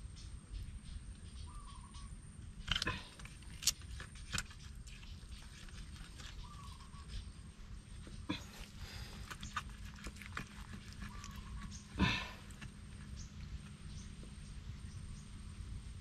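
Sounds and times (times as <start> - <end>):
low rumble of handling noise: 0.0 - 16.0.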